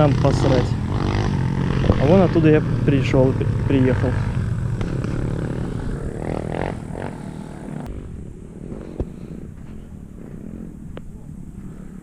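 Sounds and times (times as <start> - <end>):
moped engine running: 0.0 - 12.0.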